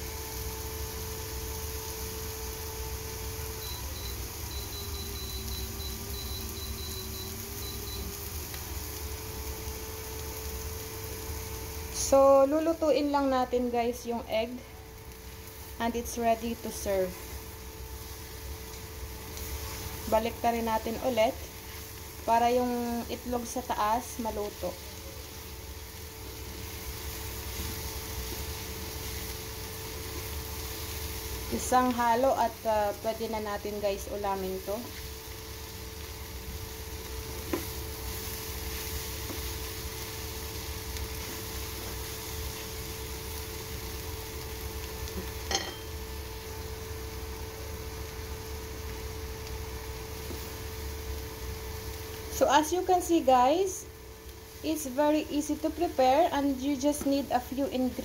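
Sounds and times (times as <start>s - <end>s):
food sizzling in pan: 0.0s - 58.0s
low constant hum: 8.8s - 58.0s.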